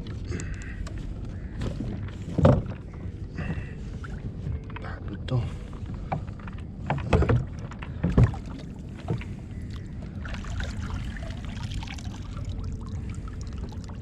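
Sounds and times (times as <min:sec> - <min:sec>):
water lapping around kayak hull: 0:00.0 - 0:14.0.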